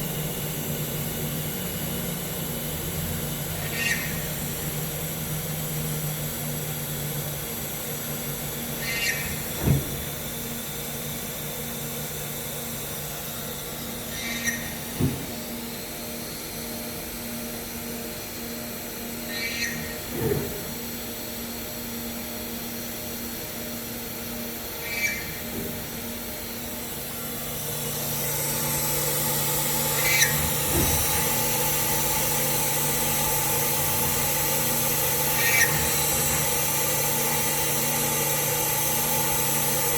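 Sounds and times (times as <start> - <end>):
cnc router humming: 0.0 - 39.9.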